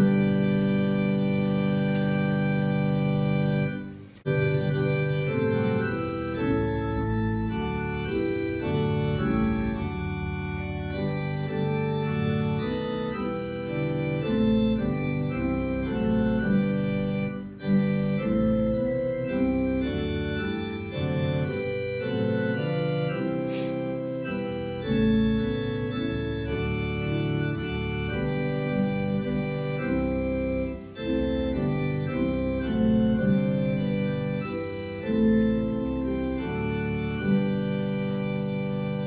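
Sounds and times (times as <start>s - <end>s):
church organ playing chords: 0.0s - 39.0s.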